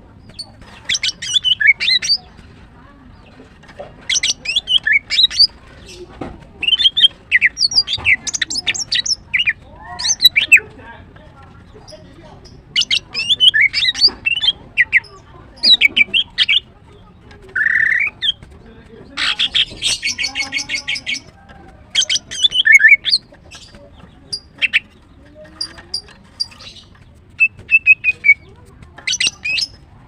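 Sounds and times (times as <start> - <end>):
bird chirping and squawking: 0.2 - 2.4, 4.0 - 10.7, 11.8 - 16.7, 17.5 - 18.5, 19.1 - 29.8.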